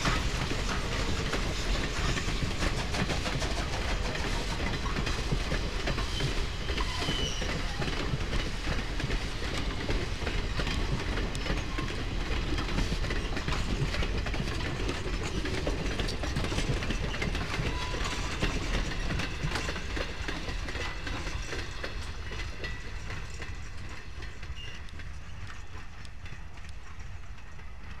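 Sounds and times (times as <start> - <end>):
train rolling past: 0.0 - 28.0
wheels clicking over rail joints: 0.0 - 28.0.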